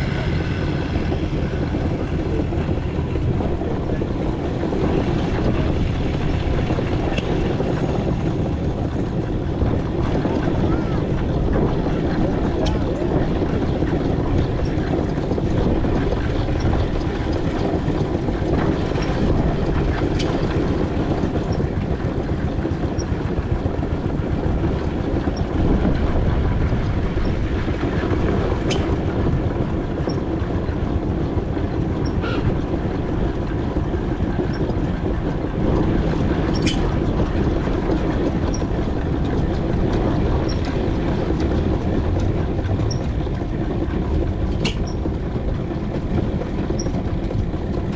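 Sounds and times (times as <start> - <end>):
steam engine running: 0.0 - 47.9.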